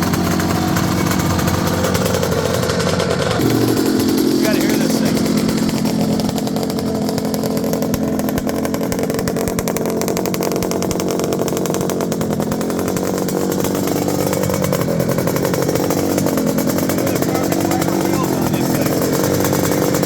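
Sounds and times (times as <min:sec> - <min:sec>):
buzzy two-stroke motorcycle engine: 0:00.0 - 0:20.0.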